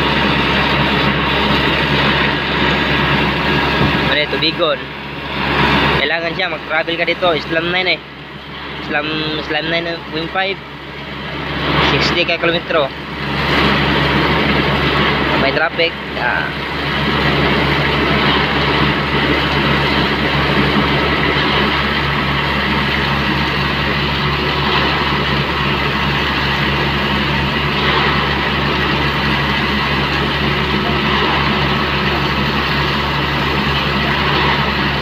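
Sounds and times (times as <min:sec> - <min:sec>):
mixer drum turning: 0:00.0 - 0:35.0
mixer truck engine running: 0:00.0 - 0:35.0
water pouring into drum: 0:00.0 - 0:35.0.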